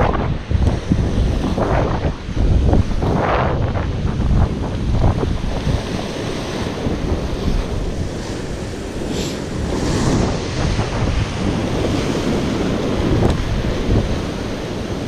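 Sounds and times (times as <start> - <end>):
waves breaking on rocks: 0.0 - 15.0
wind buffeting microphone: 0.0 - 15.0.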